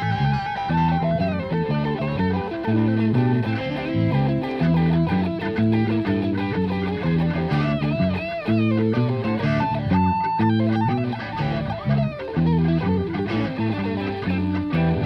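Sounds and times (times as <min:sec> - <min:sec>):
bass guitar: 0:00.0 - 0:15.0
electric guitar lead: 0:00.0 - 0:15.0
rhythm guitar: 0:00.0 - 0:15.0.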